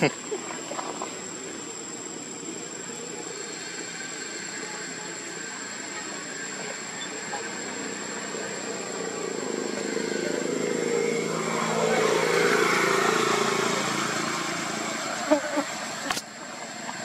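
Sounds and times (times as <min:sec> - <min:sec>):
engine passing by: 0:00.0 - 0:17.0.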